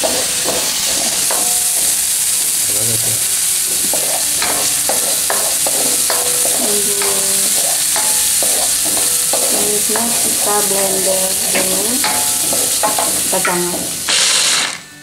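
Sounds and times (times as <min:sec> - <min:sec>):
paste sizzling in hot oil: 0:00.0 - 0:15.0
spatula scraping a wok: 0:00.0 - 0:15.0.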